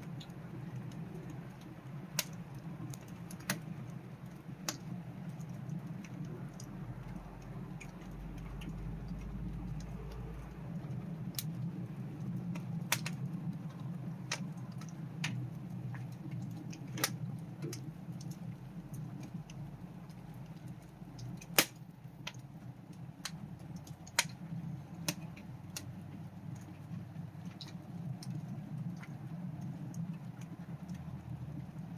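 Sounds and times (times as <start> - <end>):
wood campfire crackling: 0.0 - 31.9.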